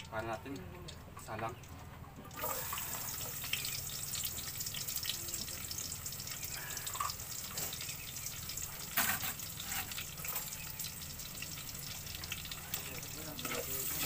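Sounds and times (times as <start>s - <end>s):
wood fire crackling: 0.0s - 14.0s
food sizzling in hot oil: 2.3s - 14.0s.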